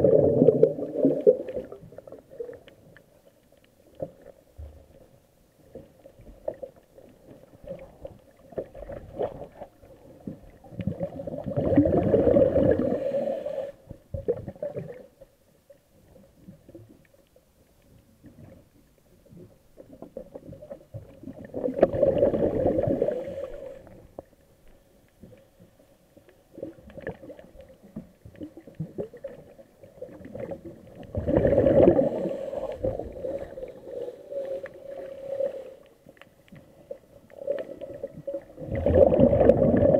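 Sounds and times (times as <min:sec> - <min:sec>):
underwater exhaled bubbles: 0:00.0 - 0:03.2, 0:05.6 - 0:15.3, 0:18.0 - 0:24.4, 0:26.2 - 0:39.9
faint underwater crackling: 0:00.0 - 0:39.9.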